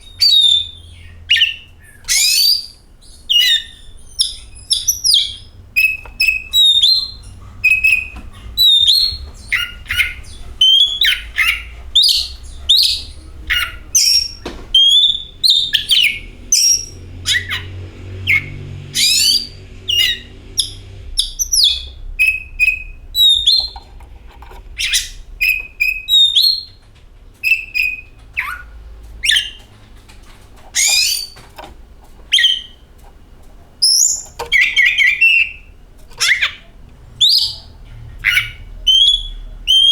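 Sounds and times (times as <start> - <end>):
bird singing whistled notes: 0.0 - 23.8, 24.8 - 26.8, 27.4 - 29.6, 30.8 - 31.4, 32.3 - 32.8, 33.8 - 36.6, 37.2 - 39.9.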